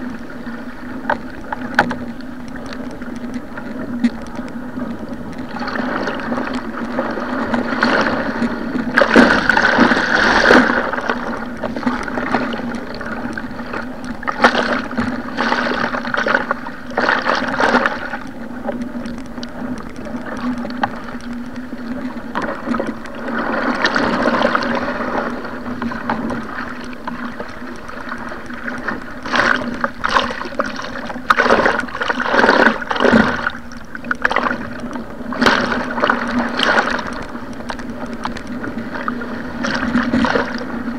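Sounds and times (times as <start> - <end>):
sea water splashing against boat: 0.0 - 40.9.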